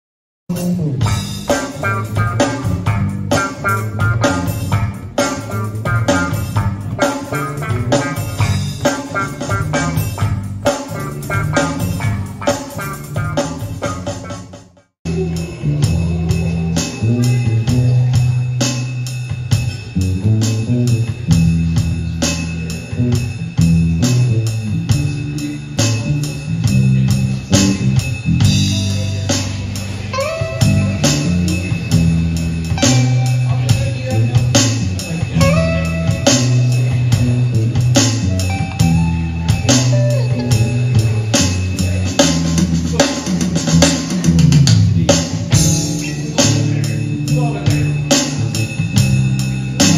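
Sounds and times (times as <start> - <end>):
electric guitar lead lines: 0.5 - 18.7, 20.1 - 49.9
electric bass line: 0.5 - 49.9
steady drum beat: 0.5 - 49.9.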